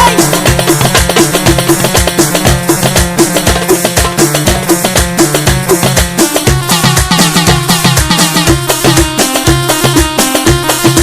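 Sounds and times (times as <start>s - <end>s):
instrumental pop band music: 0.0s - 11.0s
steady drum beat: 0.0s - 11.0s.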